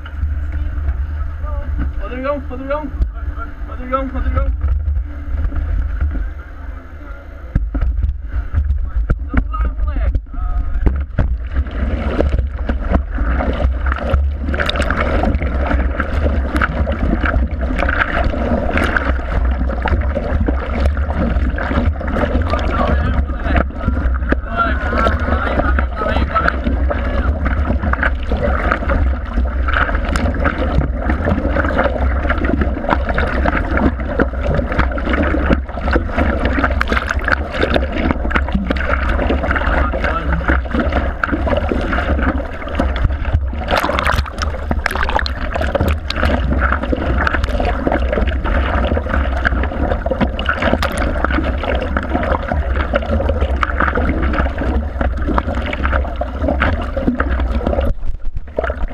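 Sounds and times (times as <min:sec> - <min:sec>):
steady low rumble: 0:00.0 - 0:58.9
water sloshing and splashing: 0:00.0 - 0:58.9.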